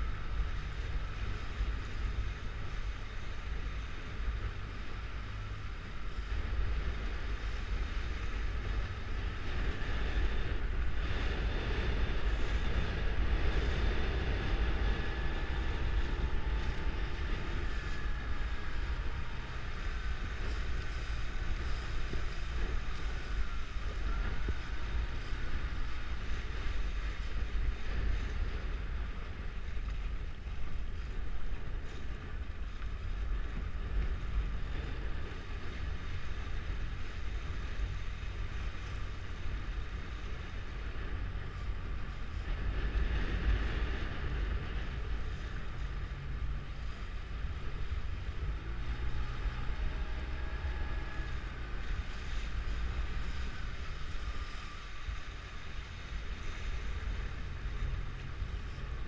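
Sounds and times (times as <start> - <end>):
water rushing and splashing: 0.0 - 59.0
wind buffeting the microphone: 0.0 - 59.0.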